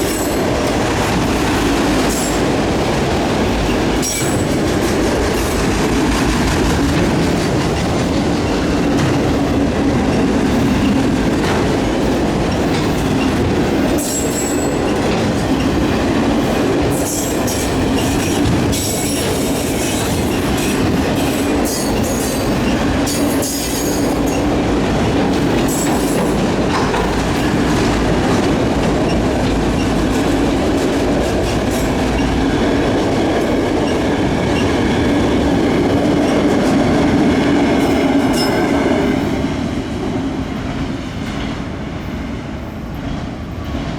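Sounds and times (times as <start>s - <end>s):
clickety-clack over rail joints: 0.0s - 43.9s
train wheels rumbling on rails: 0.0s - 43.9s.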